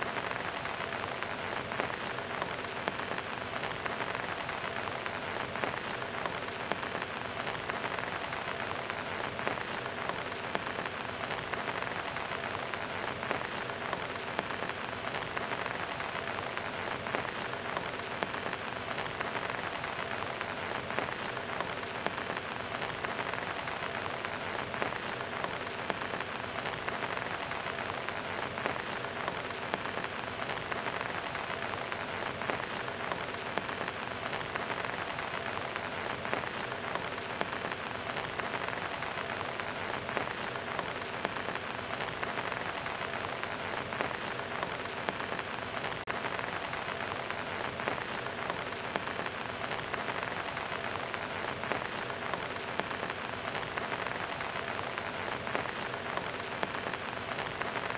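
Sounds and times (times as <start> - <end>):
rain on hard surfaces: 0.0 - 57.9.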